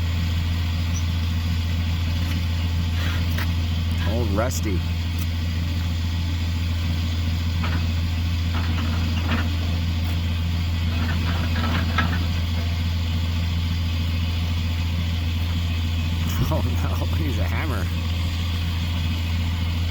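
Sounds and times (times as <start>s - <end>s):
truck engine idling: 0.0s - 19.9s.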